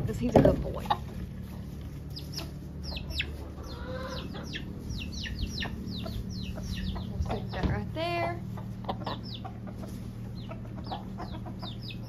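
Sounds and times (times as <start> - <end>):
chickens chirping: 0.0 - 12.0.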